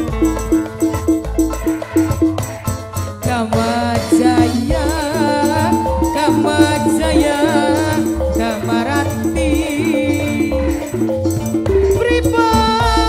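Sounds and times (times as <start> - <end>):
wavering vibrato melody: 0.0 - 3.5, 4.1 - 13.0
low drum beat: 0.0 - 13.0
shaker percussion: 0.0 - 13.0.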